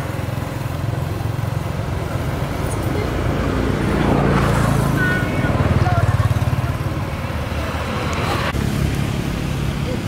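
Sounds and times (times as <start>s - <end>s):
motor engine running: 0.0s - 10.0s.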